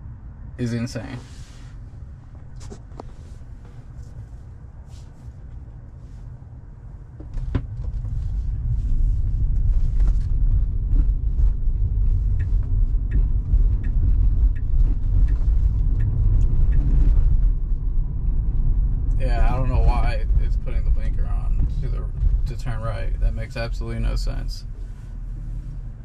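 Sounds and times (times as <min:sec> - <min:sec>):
road rumble and tyre noise: 0:00.0 - 0:26.0.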